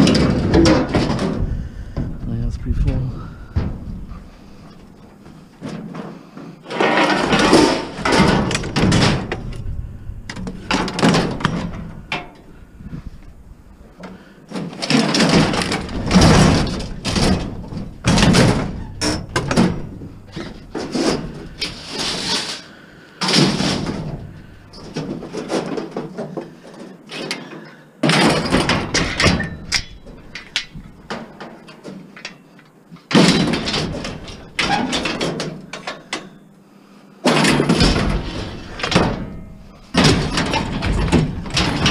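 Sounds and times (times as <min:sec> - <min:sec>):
scrap metal clanking and scraping: 0:00.0 - 0:32.5, 0:33.1 - 0:36.5, 0:37.2 - 0:41.9.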